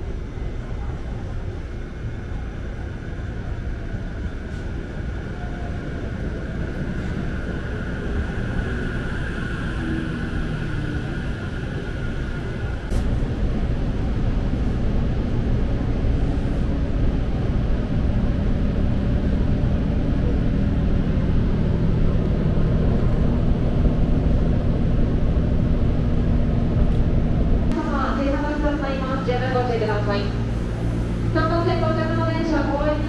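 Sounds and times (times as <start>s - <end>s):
train passing platform: 0.0s - 33.0s.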